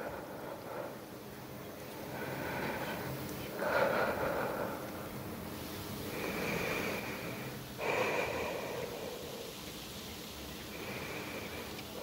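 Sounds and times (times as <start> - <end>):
person breathing heavily: 0.0 - 9.7, 10.7 - 12.0.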